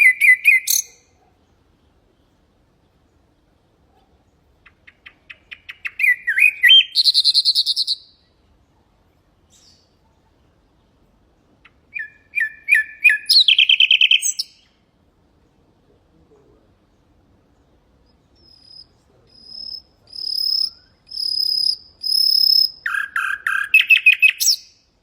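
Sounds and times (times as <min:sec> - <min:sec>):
nightingale singing: 0:00.0 - 0:08.7, 0:09.4 - 0:10.2, 0:10.8 - 0:14.9, 0:16.7 - 0:25.0.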